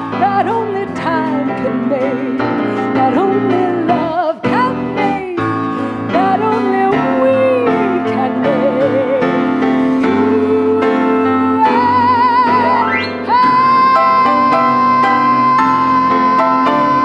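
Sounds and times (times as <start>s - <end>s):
live instrumental accompaniment: 0.0s - 17.0s
woman singing with vibrato: 0.0s - 17.0s.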